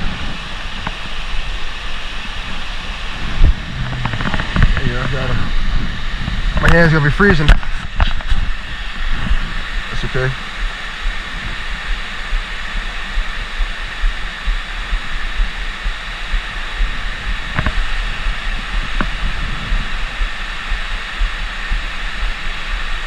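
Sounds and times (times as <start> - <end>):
wind buffeting microphone: 0.0 - 16.0, 16.8 - 21.8.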